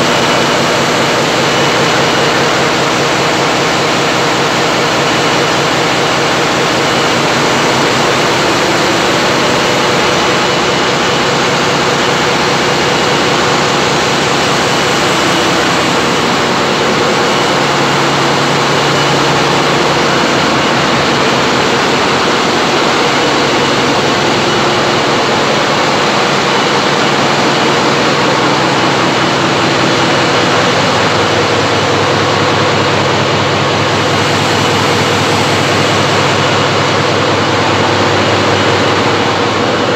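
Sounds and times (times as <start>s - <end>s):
large engines droning: 0.0s - 39.9s
steady machinery tones: 0.0s - 39.9s.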